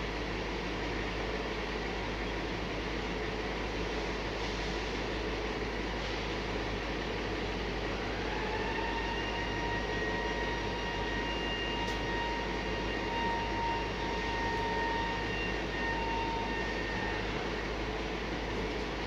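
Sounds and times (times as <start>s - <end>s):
high machinery whine: 0.0s - 19.0s.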